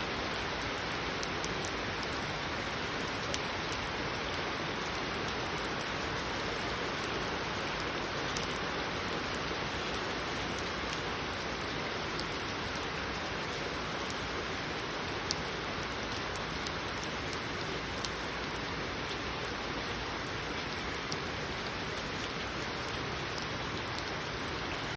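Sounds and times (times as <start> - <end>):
steady rain hiss: 0.0 - 24.9
raindrops ticking on a surface: 0.1 - 24.9.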